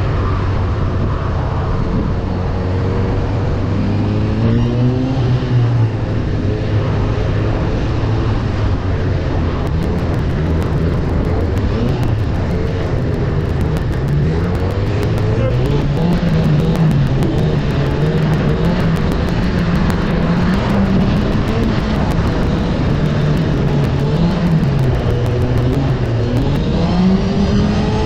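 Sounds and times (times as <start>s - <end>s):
rush of noise: 0.0s - 28.0s
motorcycle engine accelerating: 1.6s - 28.0s.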